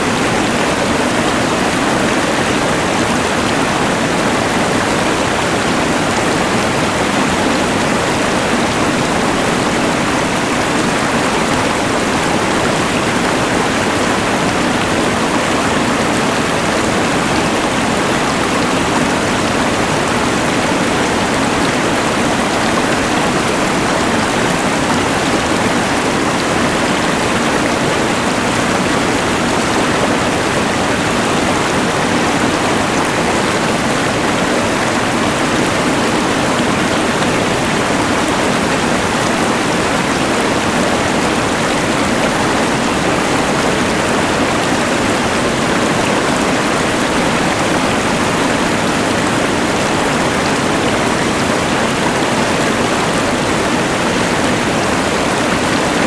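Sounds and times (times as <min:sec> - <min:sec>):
rushing mountain river: 0:00.0 - 0:56.0.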